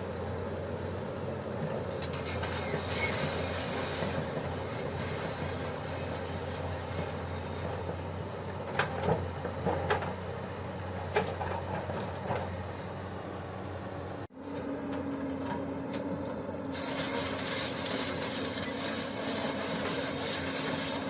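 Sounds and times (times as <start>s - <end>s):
excavator diesel hum: 0.0s - 21.0s.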